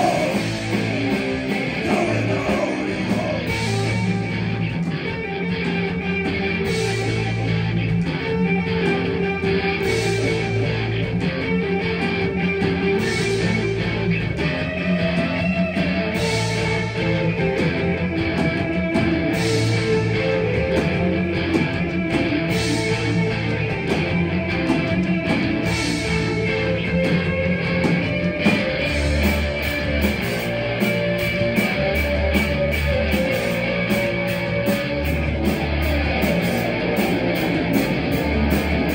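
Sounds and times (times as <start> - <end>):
bass guitar: 0.0 - 38.9
drums: 0.0 - 38.9
electric guitars: 0.0 - 38.9.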